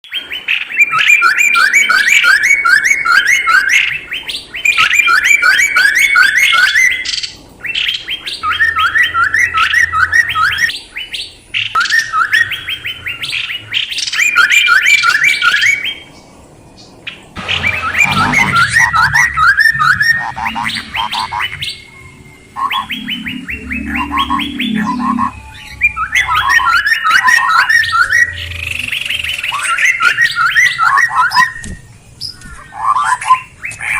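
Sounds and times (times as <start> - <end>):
songbird calling: 0.1 - 33.9.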